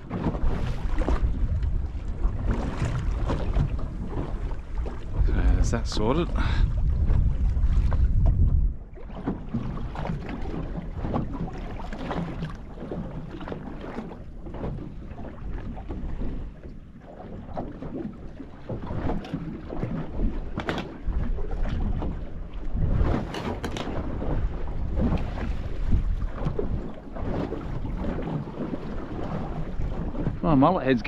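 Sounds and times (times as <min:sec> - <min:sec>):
water slapping boat hull: 0:00.0 - 0:31.0
wind buffeting microphone: 0:00.0 - 0:31.0.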